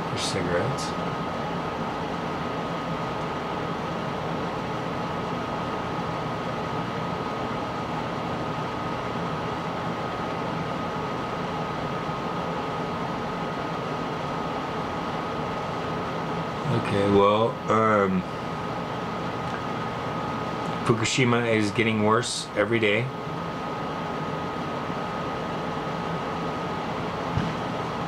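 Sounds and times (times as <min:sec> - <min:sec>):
fan hiss and hum: 0:00.0 - 0:28.0.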